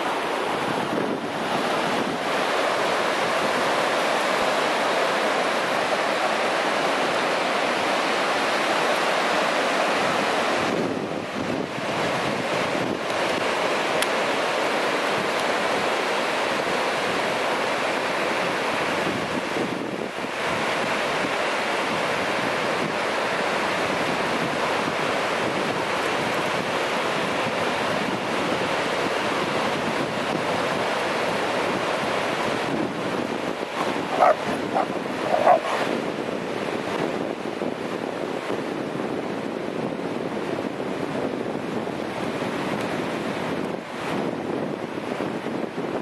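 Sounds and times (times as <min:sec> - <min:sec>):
ocean surf on sandy beach: 0:00.0 - 0:46.0
wind buffeting microphone: 0:00.0 - 0:46.0.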